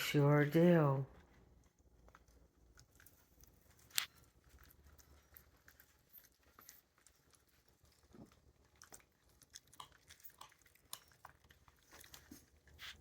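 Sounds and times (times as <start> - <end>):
puppies chewing food: 0.0 - 13.0.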